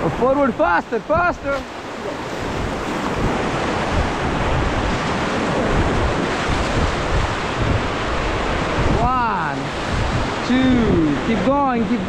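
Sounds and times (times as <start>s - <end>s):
river rapid rushing: 0.0s - 12.0s.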